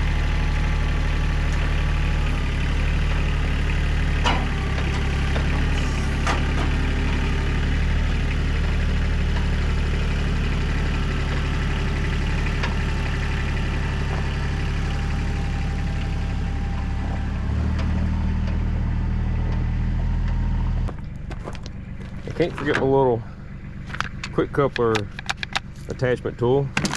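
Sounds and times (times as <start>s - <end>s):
diesel engine idling: 0.0s - 26.8s.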